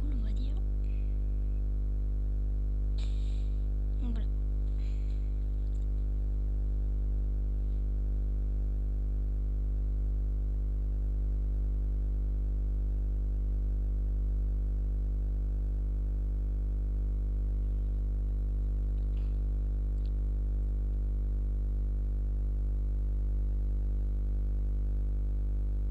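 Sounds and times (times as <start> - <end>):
mains hum: 0.0 - 25.9.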